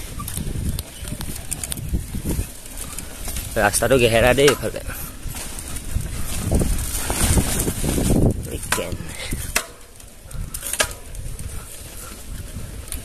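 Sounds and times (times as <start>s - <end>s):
bicycle rumbling and rattling: 0.0s - 13.0s.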